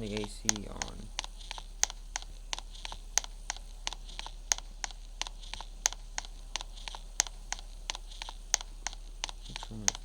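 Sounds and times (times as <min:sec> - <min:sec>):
rhythmic clicking: 0:00.0 - 0:10.0.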